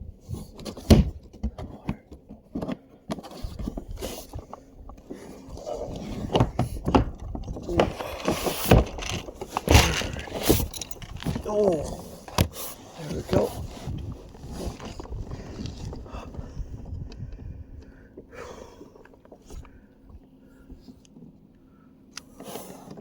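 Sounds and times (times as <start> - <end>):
gear knocking and scraping in kayak: 0.0 - 19.8.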